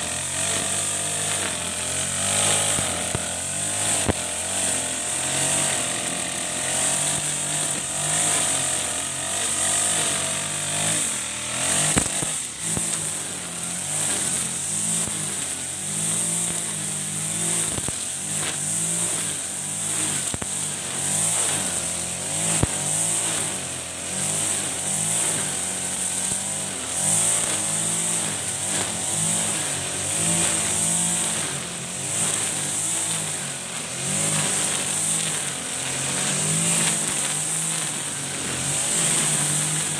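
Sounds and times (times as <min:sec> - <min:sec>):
brush cutter engine: 0:00.0 - 0:39.9.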